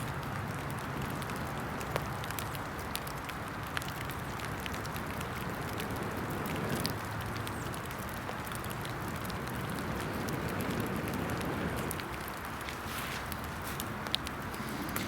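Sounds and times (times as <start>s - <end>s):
fire crackling: 0.0s - 15.0s
rain pattering: 0.0s - 15.0s.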